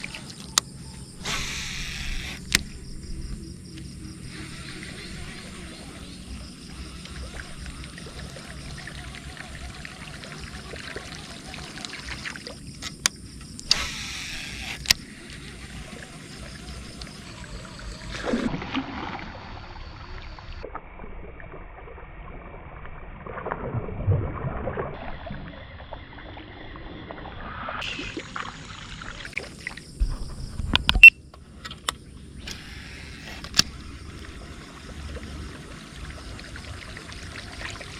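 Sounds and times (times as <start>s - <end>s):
high insect drone: 0.0s - 20.6s, 27.8s - 37.9s
water splashing and sloshing: 0.0s - 37.9s.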